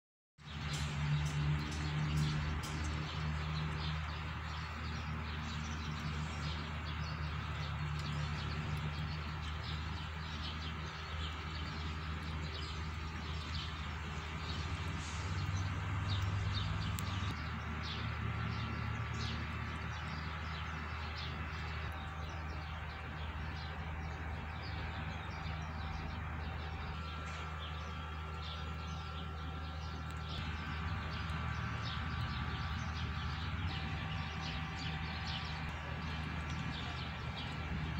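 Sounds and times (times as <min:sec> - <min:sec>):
small birds chirping: 0:00.4 - 0:37.9.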